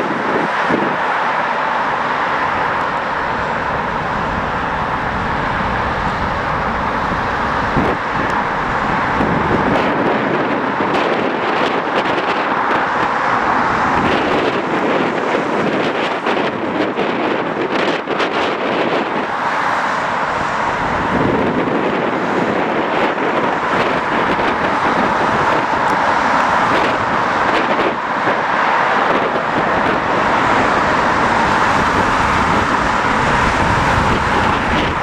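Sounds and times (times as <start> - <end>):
jet engine roar: 0.0 - 35.0
wind buffeting microphone: 0.0 - 35.0.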